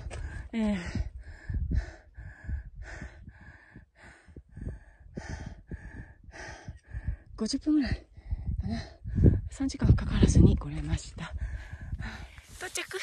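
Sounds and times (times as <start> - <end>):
person breathing hard: 0.0 - 9.5, 11.3 - 12.6.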